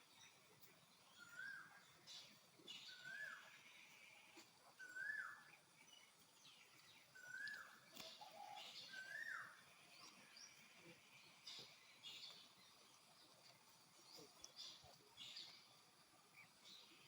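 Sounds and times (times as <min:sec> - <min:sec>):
faint high chirps: 0:00.0 - 0:17.0.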